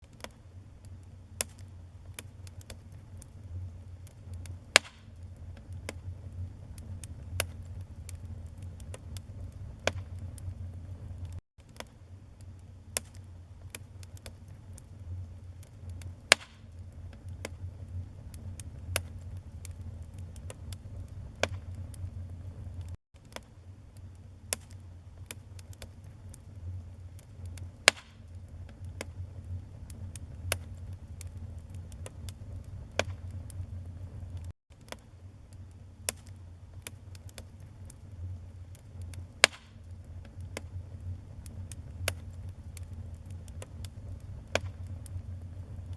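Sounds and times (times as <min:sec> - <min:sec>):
logs crackling and popping: 0:00.0 - 0:45.9
low rumble of flames: 0:00.0 - 0:45.9.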